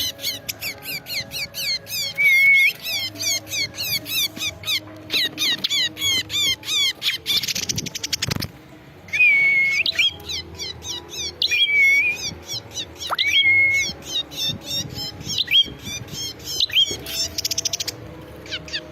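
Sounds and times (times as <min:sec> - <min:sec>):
bird song with chip notes: 0:00.0 - 0:18.9.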